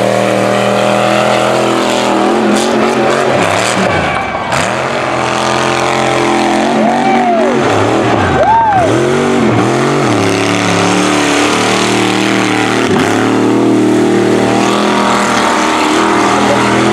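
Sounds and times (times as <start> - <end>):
truck engine working hard: 0.0 - 16.9.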